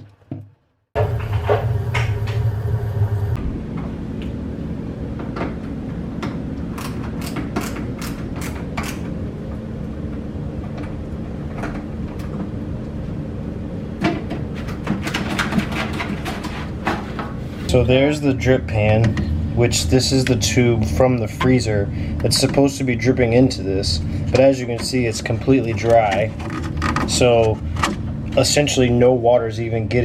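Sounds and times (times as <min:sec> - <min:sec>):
steady low hum: 0:01.0 - 0:30.0.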